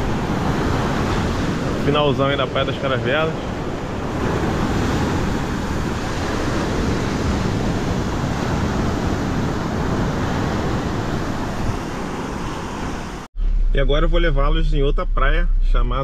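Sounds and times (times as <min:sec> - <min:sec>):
surf washing onto beach: 0:00.0 - 0:13.3
wind buffeting microphone: 0:00.0 - 0:13.8.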